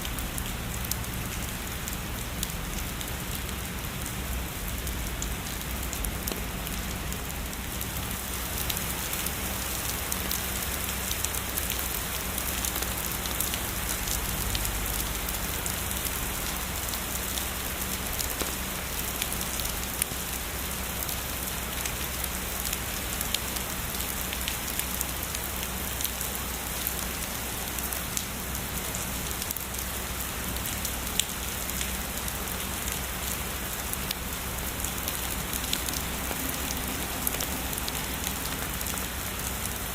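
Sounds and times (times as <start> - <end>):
heavy rain: 0.0 - 39.9
raindrops spattering on surface: 0.0 - 39.9.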